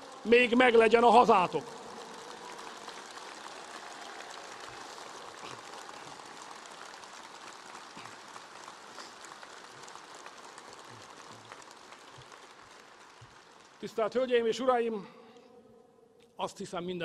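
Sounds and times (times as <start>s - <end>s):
crowd applauding: 0.0s - 15.5s.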